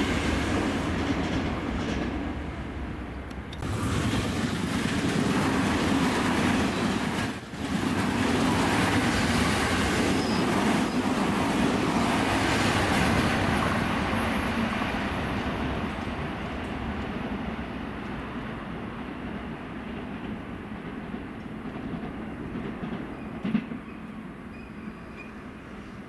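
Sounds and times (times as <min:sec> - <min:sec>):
electric trains running past: 0:00.0 - 0:26.0.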